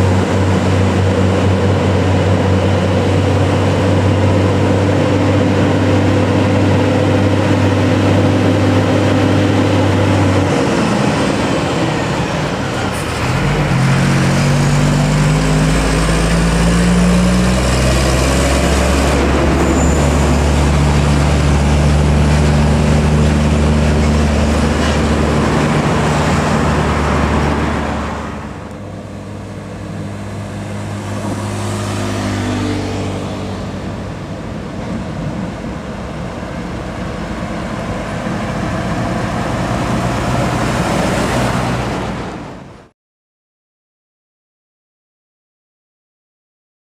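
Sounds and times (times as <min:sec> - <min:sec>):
diesel trucks labouring uphill: 0:00.0 - 0:42.9.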